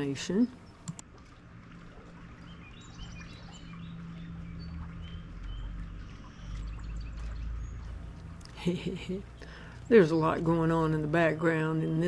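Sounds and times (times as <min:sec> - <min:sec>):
low hum and rumble: 0:00.0 - 0:12.0
small birds chirping: 0:02.1 - 0:12.0.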